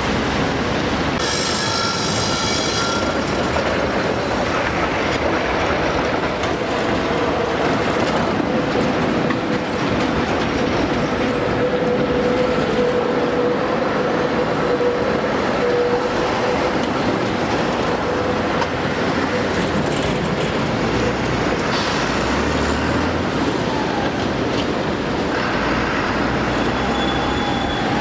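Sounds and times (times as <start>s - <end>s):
city traffic noise: 0.0s - 28.0s
tram running on rails: 0.0s - 28.0s.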